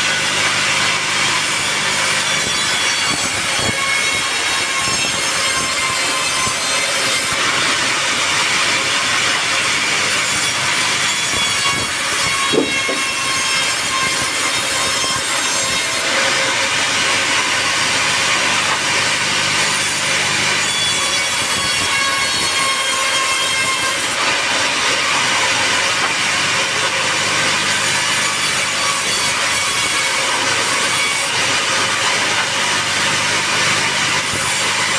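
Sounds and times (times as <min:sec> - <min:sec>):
band saw cutting log: 0:00.0 - 0:34.9.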